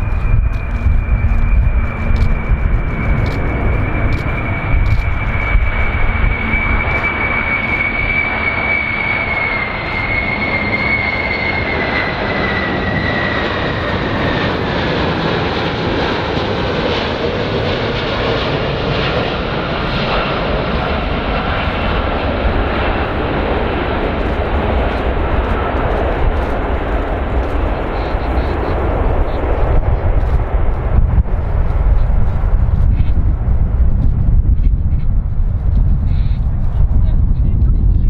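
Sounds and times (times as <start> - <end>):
jet engines rumbling and whining: 0.0 - 38.0.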